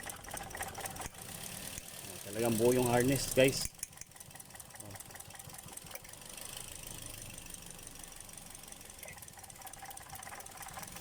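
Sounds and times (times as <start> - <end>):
engine idling roughly with ticking: 0.0 - 11.0.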